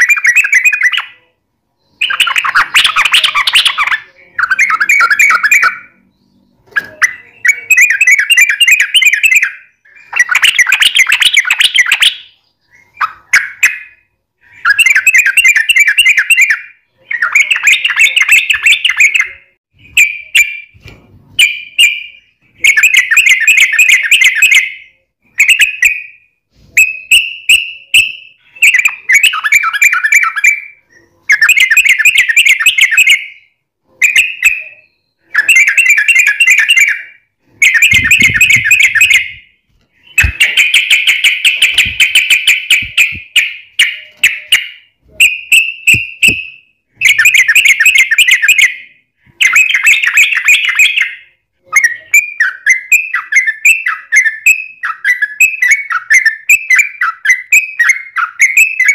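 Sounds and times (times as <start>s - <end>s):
bird chattering song: 0.0s - 20.7s, 21.4s - 58.9s.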